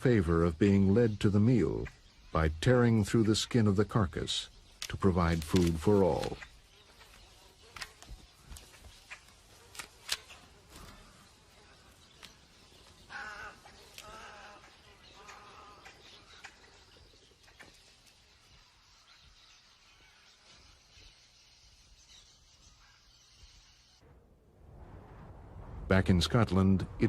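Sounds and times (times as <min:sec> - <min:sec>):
harsh bird calls: 0:00.0 - 0:24.0.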